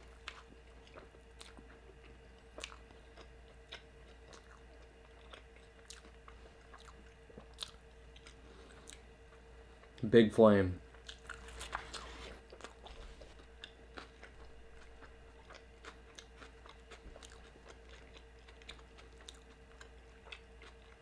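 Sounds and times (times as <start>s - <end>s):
person chewing food: 0.0s - 9.9s, 11.0s - 21.0s
faint steady hum: 0.0s - 21.0s.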